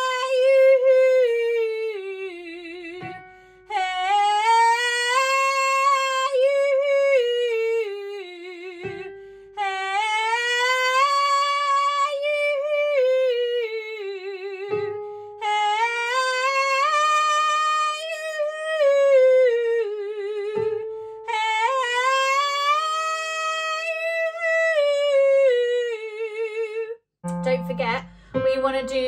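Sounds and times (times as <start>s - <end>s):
woman singing vocal exercise: 0.0s - 27.8s.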